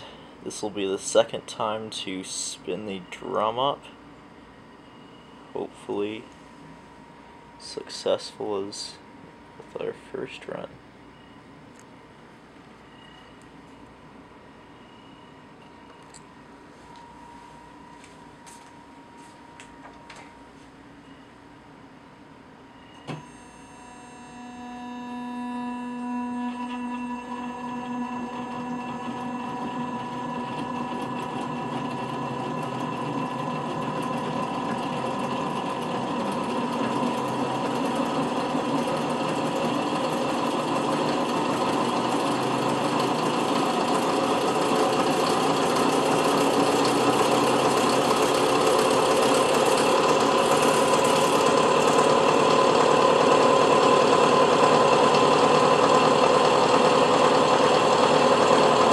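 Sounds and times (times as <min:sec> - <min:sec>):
electric motor hum and whine: 0:00.0 - 0:58.9.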